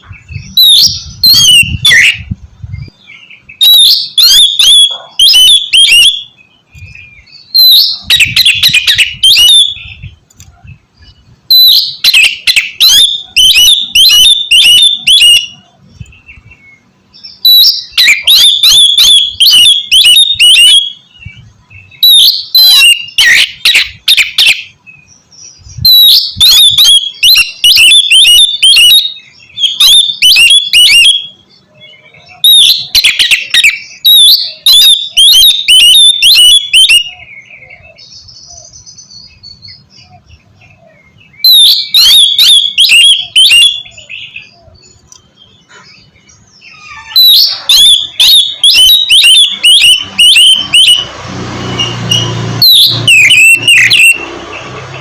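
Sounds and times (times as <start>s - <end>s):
bird singing sharp high notes: 0.0s - 10.3s, 11.0s - 55.0s.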